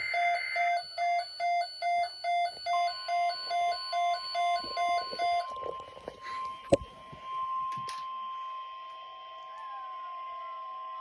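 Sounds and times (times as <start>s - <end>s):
rapid electronic alarm beeping: 0.0s - 9.4s
steady attention tone: 0.0s - 9.4s.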